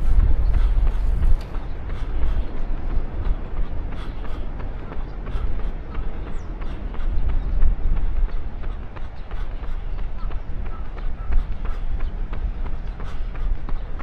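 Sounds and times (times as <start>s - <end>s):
footsteps running on pavement: 0.0s - 14.0s.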